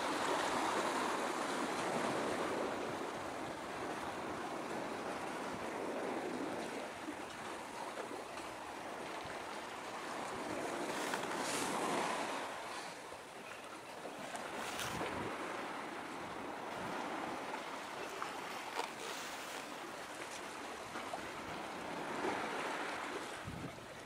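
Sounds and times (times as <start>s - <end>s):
small waves washing at shore: 0.0s - 24.0s.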